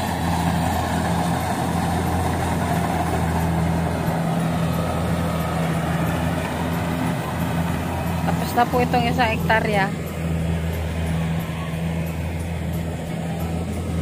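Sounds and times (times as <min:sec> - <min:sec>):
harvester engine humming: 0:00.0 - 0:14.0.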